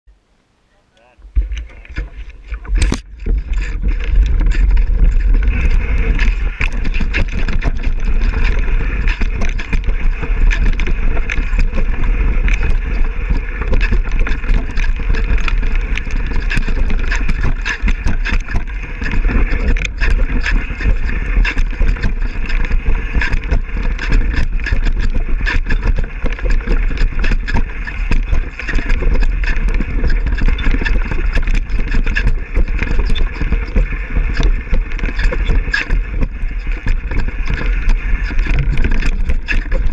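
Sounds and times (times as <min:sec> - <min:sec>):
bike rattling over rough ground: 0:01.0 - 0:39.9
wind rumble on microphone: 0:01.1 - 0:39.9.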